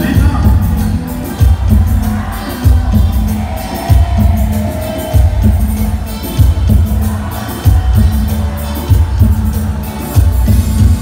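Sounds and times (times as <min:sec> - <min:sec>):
heavy bass notes: 0:00.0 - 0:11.0
loud live band music: 0:00.0 - 0:11.0.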